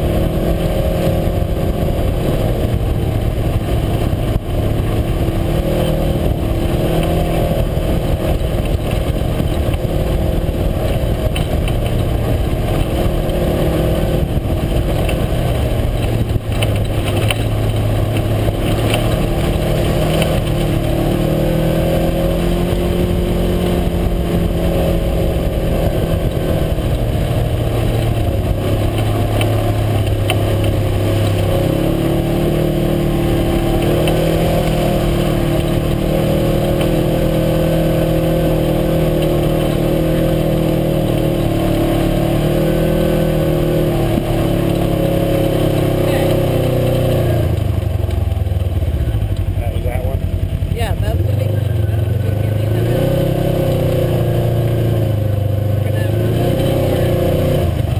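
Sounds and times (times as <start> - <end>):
vehicle engine revving: 0.0 - 57.9.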